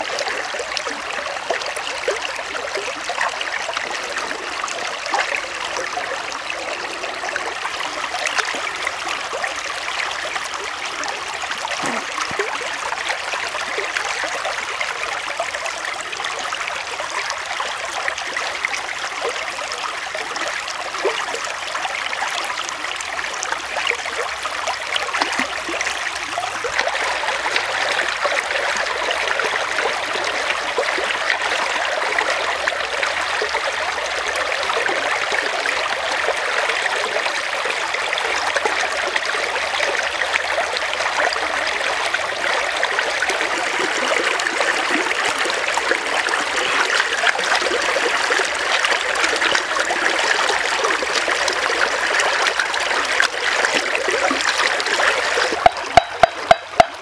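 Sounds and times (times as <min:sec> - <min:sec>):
stream babbling over rocks: 0:00.0 - 0:57.0.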